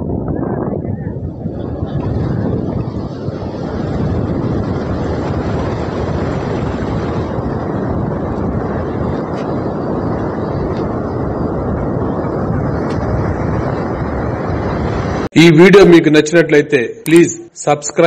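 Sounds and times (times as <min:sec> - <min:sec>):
wind rumbling on microphone: 0:00.0 - 0:16.2
heavy surf breaking: 0:00.0 - 0:16.4.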